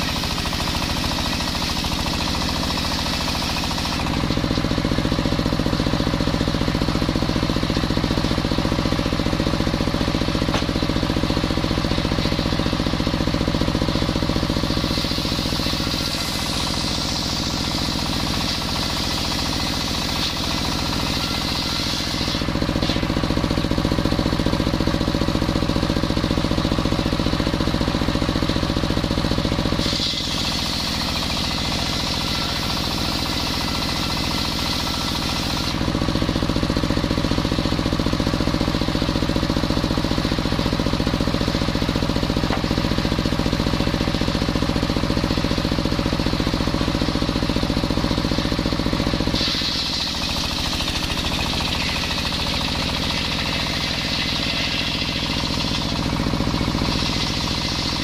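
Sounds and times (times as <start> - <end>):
saw blade cutting wood: 0.0 - 58.0
table saw motor running: 0.0 - 58.0.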